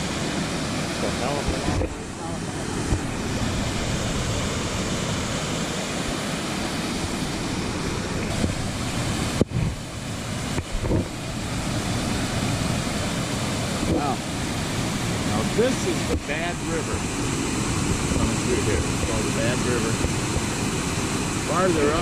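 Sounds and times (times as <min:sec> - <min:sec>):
waterfall roaring: 0:00.0 - 0:22.0
wind buffeting microphone: 0:00.0 - 0:22.0.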